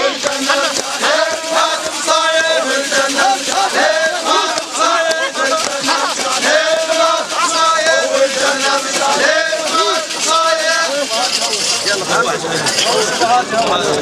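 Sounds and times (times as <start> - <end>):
crowd of men chanting: 0.0 - 11.9.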